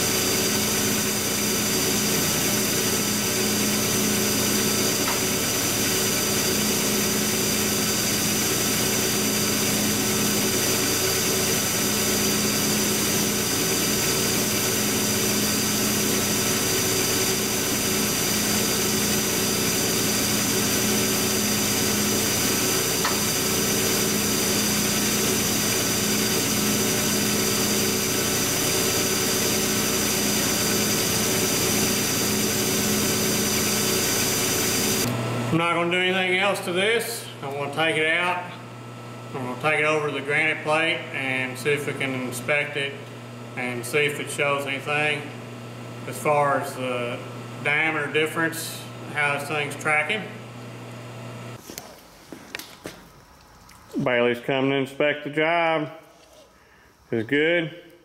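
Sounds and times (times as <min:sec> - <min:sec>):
machine shop equipment humming: 0:00.0 - 0:54.7.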